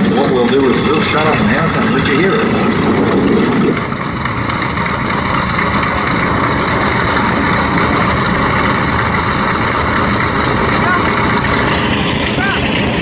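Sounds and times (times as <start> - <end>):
radial aircraft engine running: 0.0 - 13.0.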